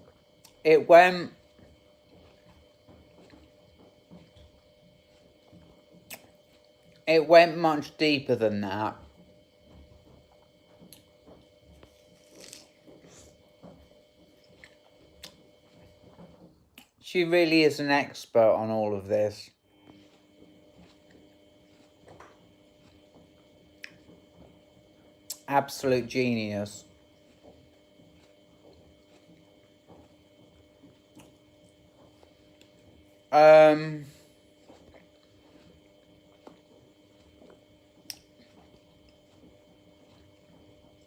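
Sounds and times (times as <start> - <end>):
chewing watermelon: 0.0 - 0.6, 1.2 - 8.0, 8.6 - 17.0, 19.0 - 33.3, 34.0 - 41.0.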